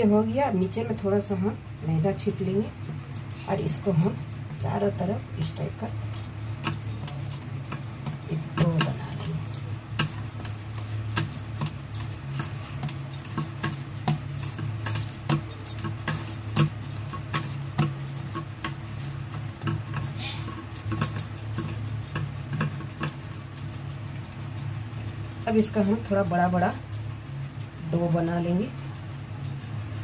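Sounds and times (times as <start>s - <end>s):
bangles clinking: 2.1s - 30.0s.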